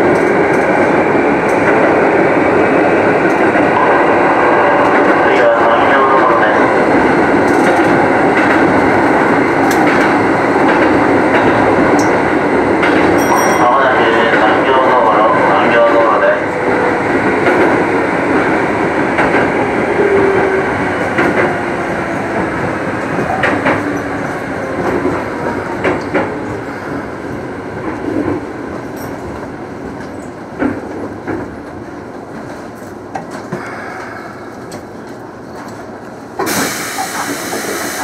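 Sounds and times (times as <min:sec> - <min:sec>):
train wheel and running noise: 0:00.0 - 0:38.0.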